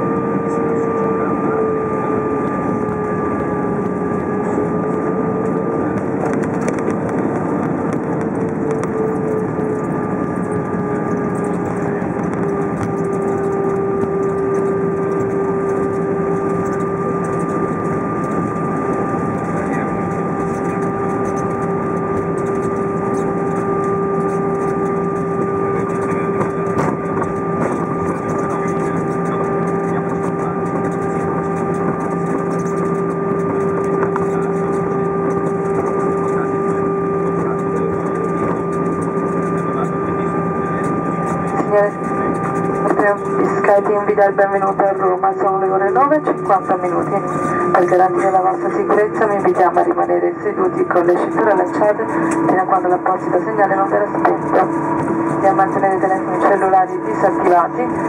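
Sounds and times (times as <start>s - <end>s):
aircraft cabin roar: 0.0s - 58.0s
low rumble: 0.0s - 58.0s
steady hum: 0.0s - 58.0s
steady tones: 0.0s - 58.0s.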